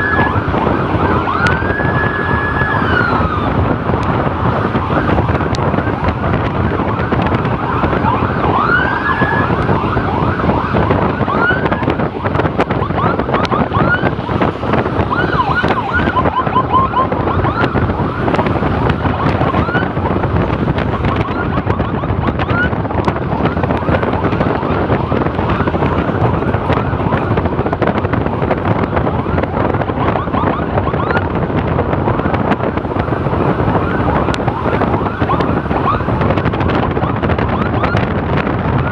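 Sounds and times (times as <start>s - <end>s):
emergency siren rising sweeps: 0.0s - 38.9s
moving motorcycle rush: 0.0s - 38.9s
wind noise on microphone: 0.0s - 38.9s.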